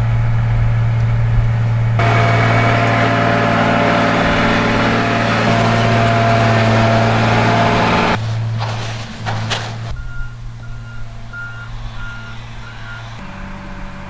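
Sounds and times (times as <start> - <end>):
diesel engine humming: 0.0 - 14.0
mechanical noise: 0.0 - 14.0.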